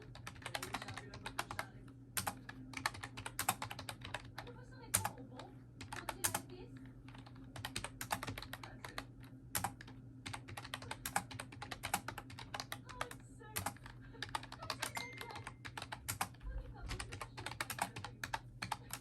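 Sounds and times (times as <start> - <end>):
keyboard typing clicks: 0.0 - 5.2, 7.1 - 19.0.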